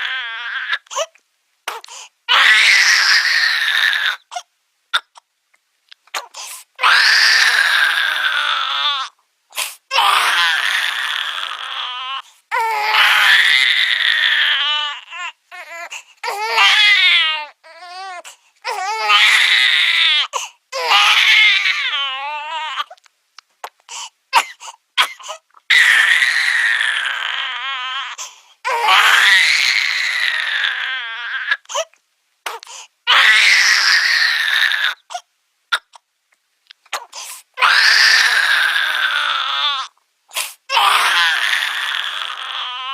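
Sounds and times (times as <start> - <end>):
baby crying: 0.0 - 5.2, 6.2 - 9.2, 9.9 - 23.0, 24.3 - 36.0, 36.9 - 42.9.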